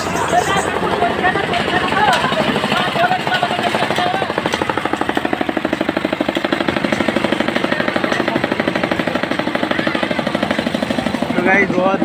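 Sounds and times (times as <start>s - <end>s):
engine chugging: 0.0s - 12.0s.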